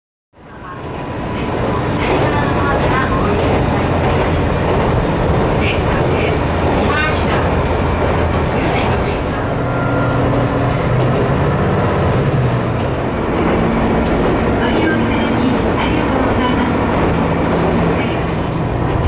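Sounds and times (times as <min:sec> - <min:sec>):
wheels rumbling on rail: 0:00.4 - 0:19.0
rail joint clicks: 0:01.4 - 0:19.0.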